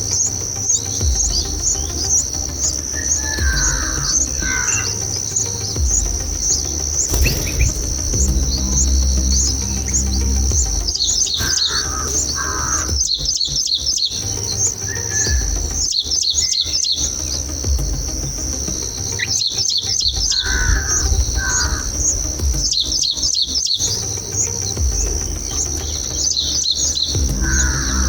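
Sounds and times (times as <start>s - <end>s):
bird chicks begging chirps: 0.0s - 17.7s, 18.4s - 28.0s
high insect drone: 0.0s - 28.0s
lower bird calls: 0.0s - 28.0s.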